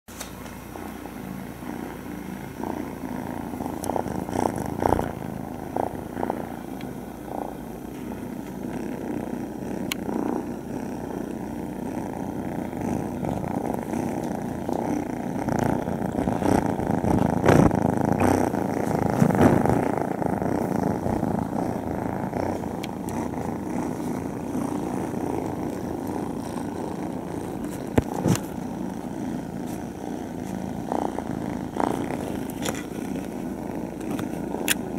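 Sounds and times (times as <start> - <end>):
kittens purring: 0.1 - 34.9.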